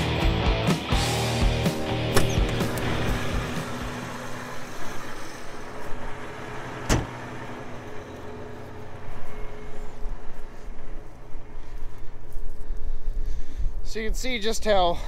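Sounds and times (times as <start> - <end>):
tractor engine idling: 1.2 - 14.9.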